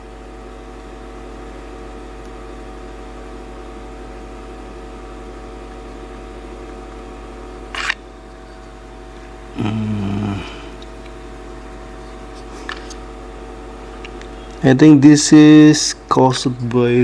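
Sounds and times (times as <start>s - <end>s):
background hum with steady tones: 0.0s - 17.0s.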